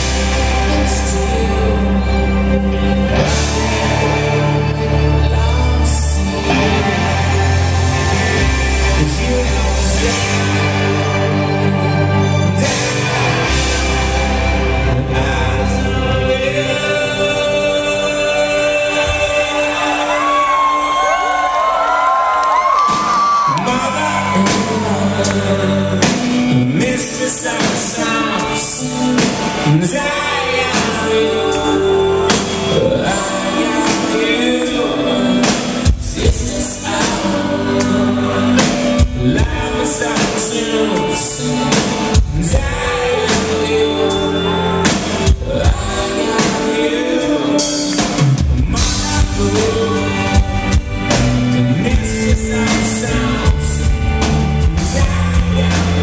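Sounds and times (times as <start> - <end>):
man singing: 0.0 - 21.8, 23.3 - 56.0
live rock band: 0.0 - 56.0.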